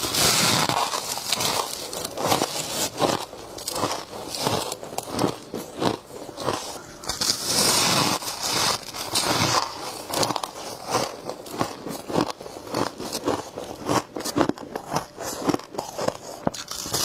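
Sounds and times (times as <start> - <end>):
frost crunching as chewed: 0.0 - 17.0.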